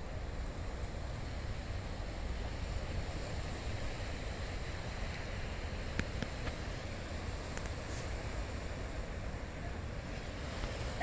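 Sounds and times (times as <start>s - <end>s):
ocean waves breaking: 0.0s - 11.0s
wind rumbling on microphone: 0.0s - 11.0s.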